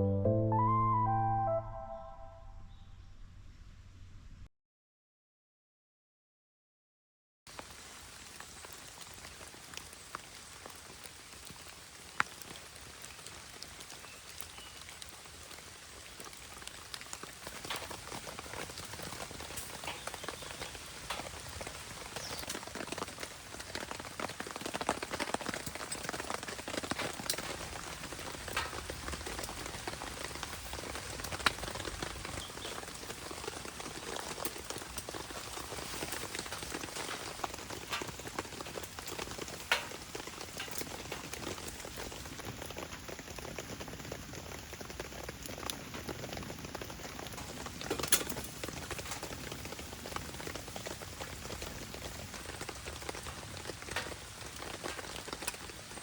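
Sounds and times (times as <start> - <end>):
steady rain falling: 7.5 - 56.0.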